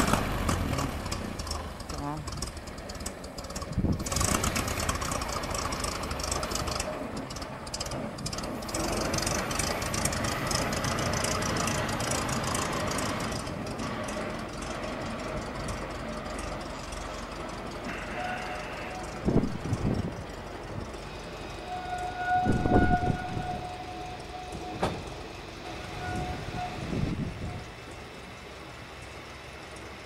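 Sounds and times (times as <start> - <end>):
locomotive engine clattering: 0.0 - 30.0.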